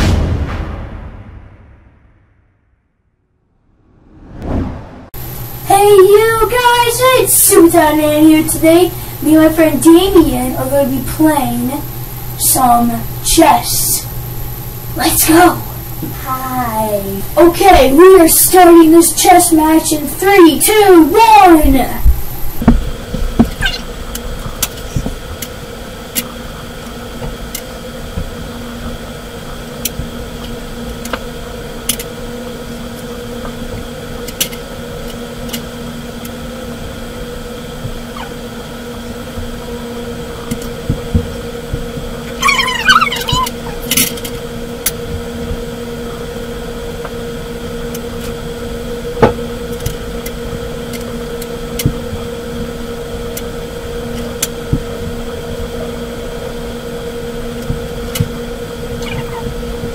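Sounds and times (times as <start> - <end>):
steady electrical hum: 5.0 - 59.9.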